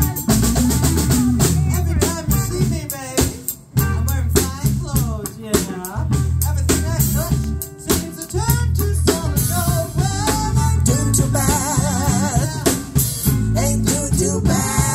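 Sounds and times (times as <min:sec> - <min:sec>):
live blues band playing: 0:00.0 - 0:14.9.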